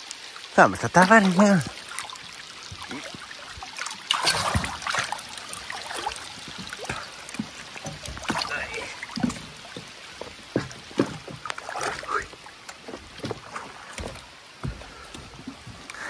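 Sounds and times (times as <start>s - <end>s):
rain falling on water: 0.0s - 16.0s
footsteps on wet boards: 1.1s - 16.0s.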